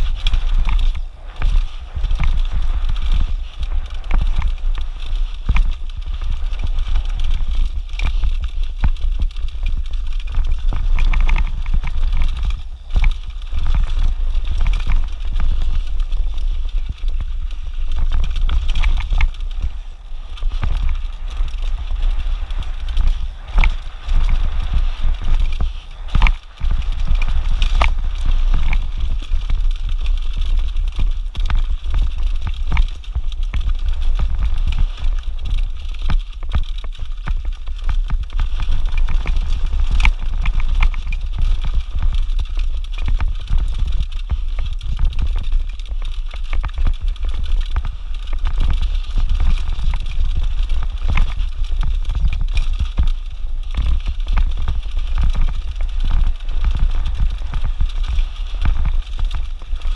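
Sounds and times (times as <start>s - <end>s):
bike knocking and rattling: 0.0s - 59.9s
steady low rumble: 0.0s - 59.9s
tyres crunching over stones: 0.0s - 59.9s.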